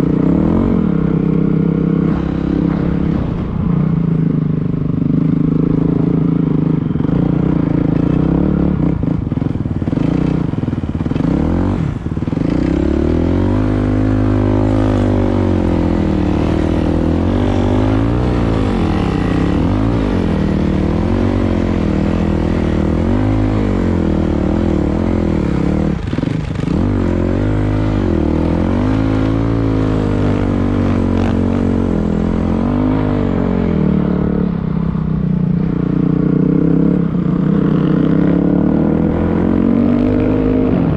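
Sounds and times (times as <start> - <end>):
dirt bike engine revving: 5.1 - 34.6, 35.6 - 40.9.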